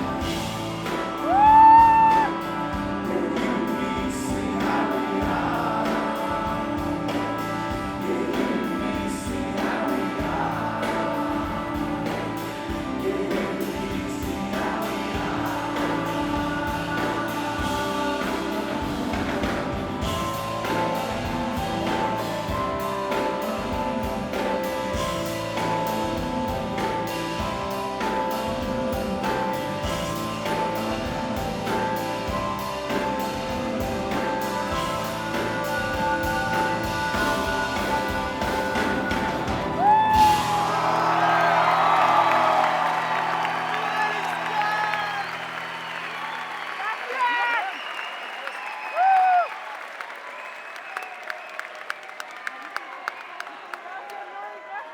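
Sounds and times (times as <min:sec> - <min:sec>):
person singing: 0:00.0 - 0:44.6
live rock band: 0:00.0 - 0:47.6.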